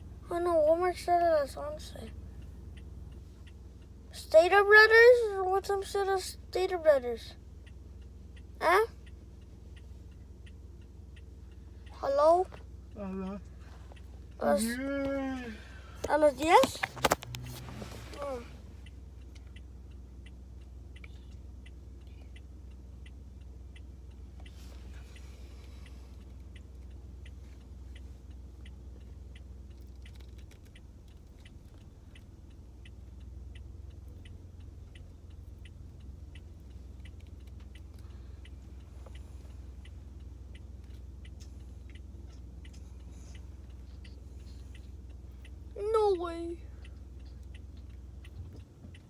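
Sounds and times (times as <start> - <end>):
car indicator ticking: 0.0 - 49.0
low car hum: 0.0 - 49.0.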